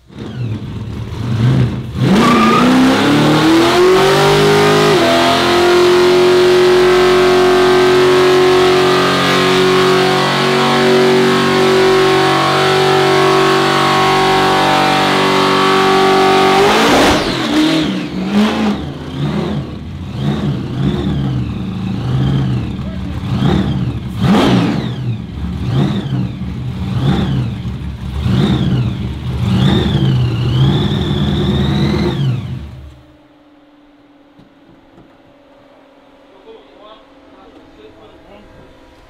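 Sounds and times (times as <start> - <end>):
short engine revs: 0.0 - 33.1
car engine revving high: 0.0 - 39.0.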